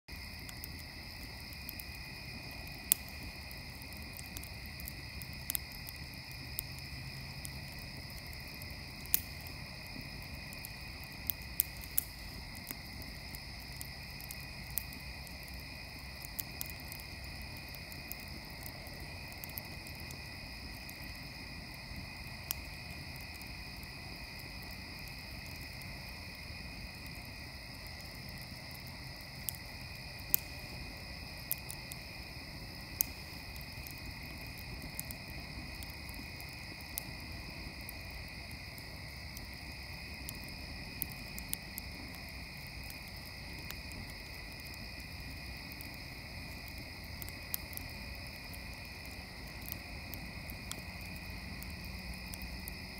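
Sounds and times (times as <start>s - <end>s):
wood fire crackling and popping: 0.1s - 52.9s.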